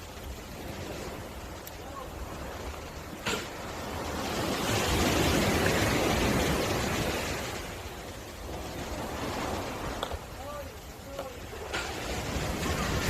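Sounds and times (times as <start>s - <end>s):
ocean wave breaking: 0.0s - 13.0s.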